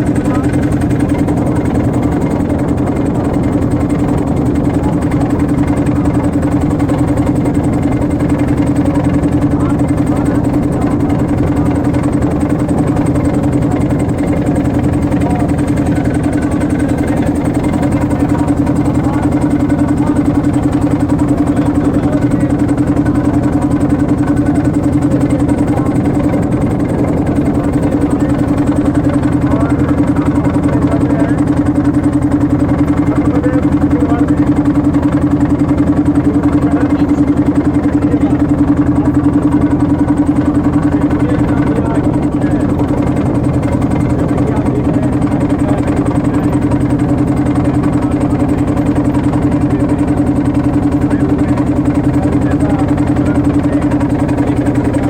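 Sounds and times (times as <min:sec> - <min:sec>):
motorboat engine drone: 0:00.0 - 0:55.0.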